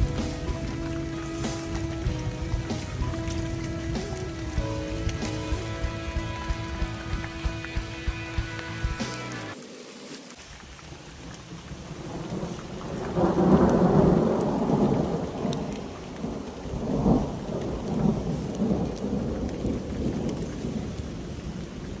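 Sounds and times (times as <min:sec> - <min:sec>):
thunder rumbling: 0:00.0 - 0:09.6, 0:11.5 - 0:22.0
rain: 0:00.0 - 0:22.0.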